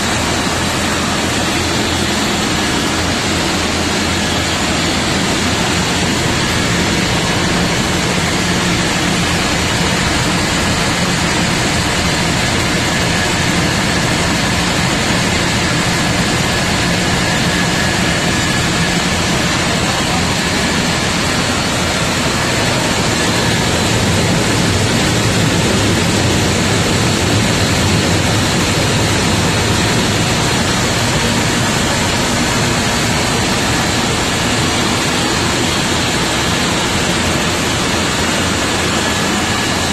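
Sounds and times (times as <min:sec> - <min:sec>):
rice mill machinery running: 0:00.0 - 0:39.9.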